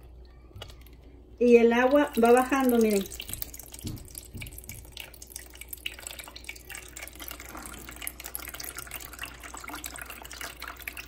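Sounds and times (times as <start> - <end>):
water dripping into plastic basin: 0.0 - 11.0.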